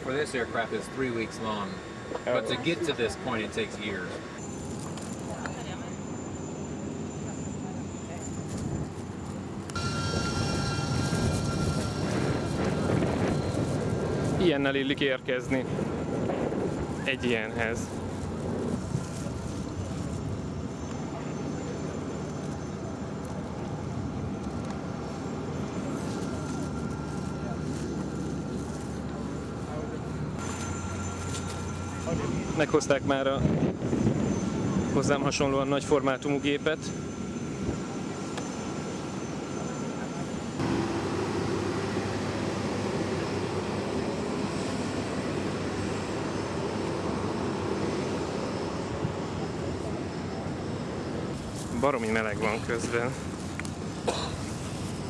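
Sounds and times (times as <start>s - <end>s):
distant aircraft engines rumbling: 0.0s - 55.0s
faint high whine: 0.0s - 55.0s.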